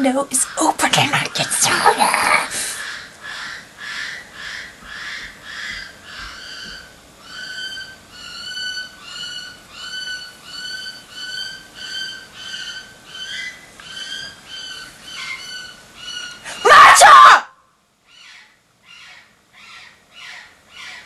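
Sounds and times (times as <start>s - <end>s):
parrot calling: 1.3s - 17.4s, 18.1s - 21.0s.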